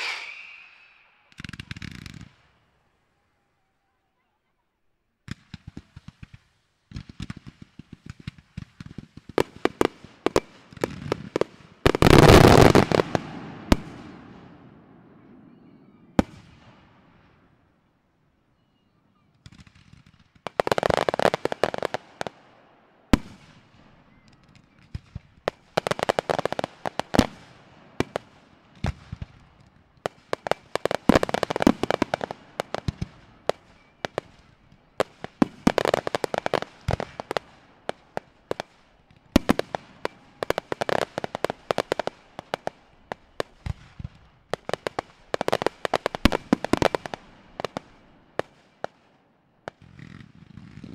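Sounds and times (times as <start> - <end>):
fireworks bangs and crackles: 0.0 - 2.7, 5.2 - 17.6, 19.2 - 50.9.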